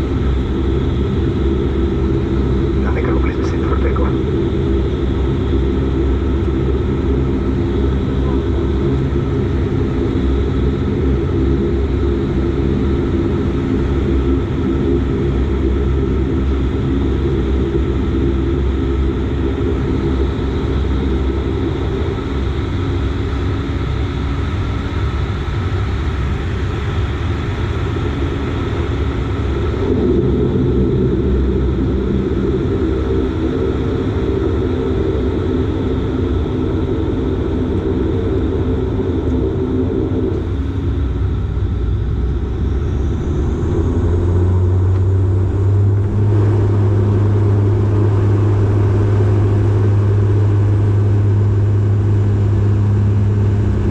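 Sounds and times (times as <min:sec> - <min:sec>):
turboprop engines droning in cabin: 0:00.0 - 0:53.9.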